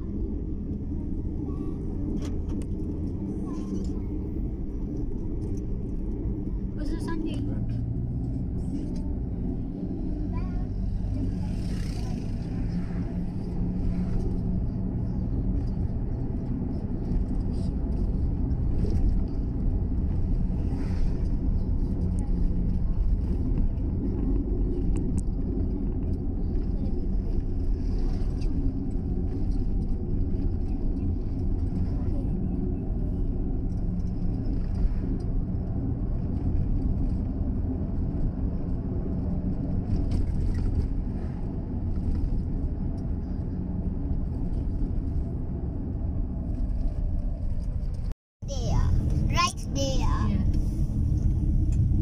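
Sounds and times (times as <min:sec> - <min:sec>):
car driving rumble: 0:00.0 - 0:52.0.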